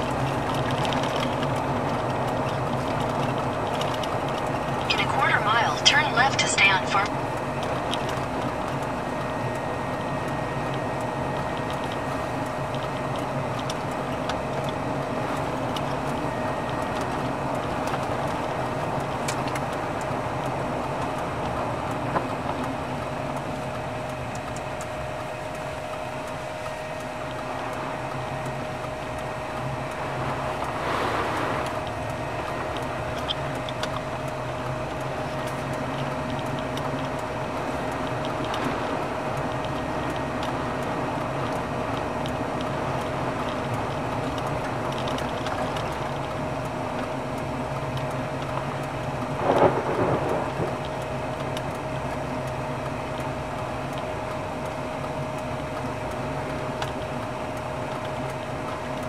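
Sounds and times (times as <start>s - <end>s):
faint hum: 0.0s - 59.0s
road and engine noise: 0.0s - 59.0s.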